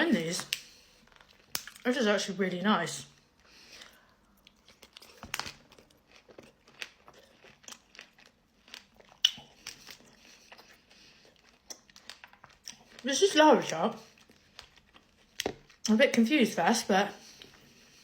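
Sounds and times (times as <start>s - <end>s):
chewing and crunching sweets: 0.1s - 18.0s.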